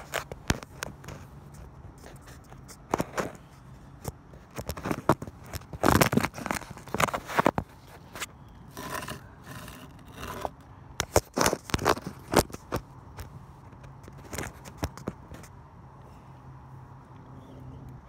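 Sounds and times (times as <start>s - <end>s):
phone handling rubs and clicks: 0.0s - 15.6s.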